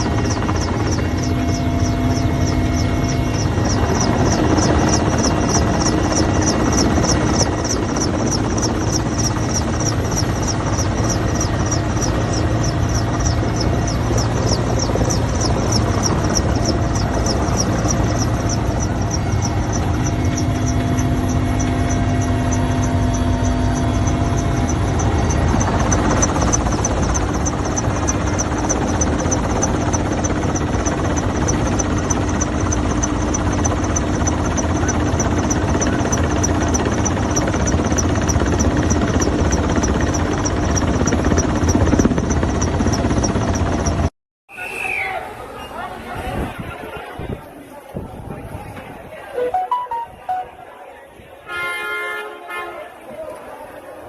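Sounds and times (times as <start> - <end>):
helicopter rotor beating: 0.0 - 44.1.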